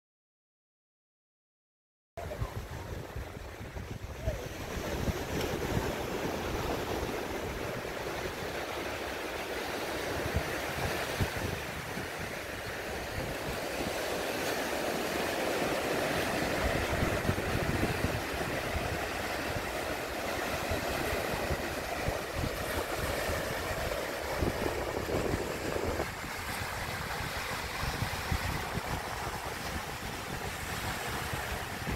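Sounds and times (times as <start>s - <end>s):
surf breaking on a sandy beach: 2.2s - 31.9s
wind buffeting the microphone: 2.2s - 31.9s.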